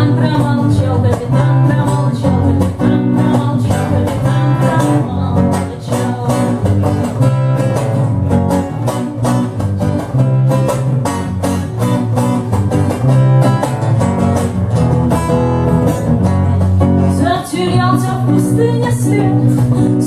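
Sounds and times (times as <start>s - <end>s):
acoustic guitar strumming: 0.0s - 20.0s
electric bass guitar: 0.0s - 20.0s.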